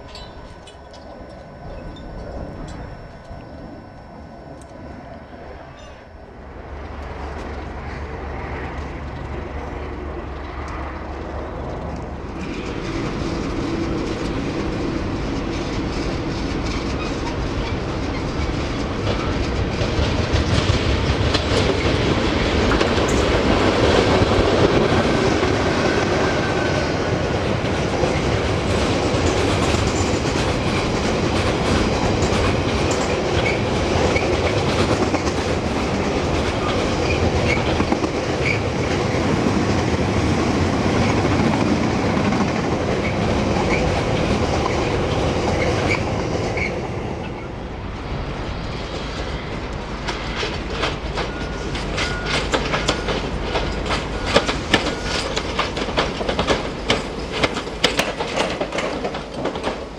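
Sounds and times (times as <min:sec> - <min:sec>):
freight train wheels clattering: 0:06.8 - 0:59.9.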